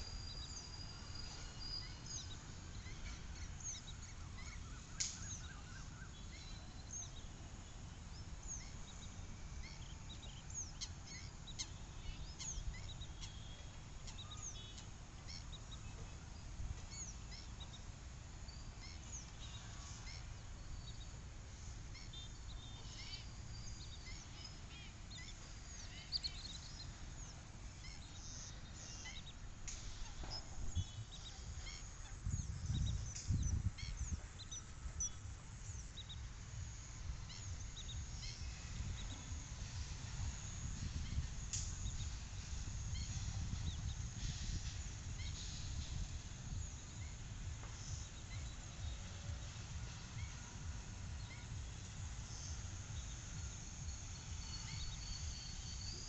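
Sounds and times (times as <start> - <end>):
birds chirping: 0.0 - 56.0
steady low rumble: 0.0 - 56.0.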